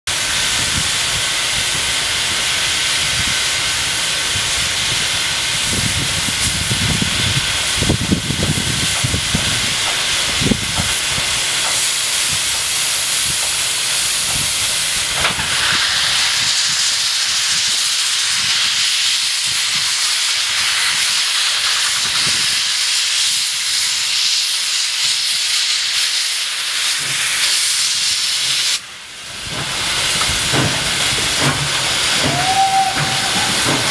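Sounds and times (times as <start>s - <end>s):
high steam hiss from cylinders: 0.1s - 33.9s
steam locomotive hissing: 0.1s - 33.9s.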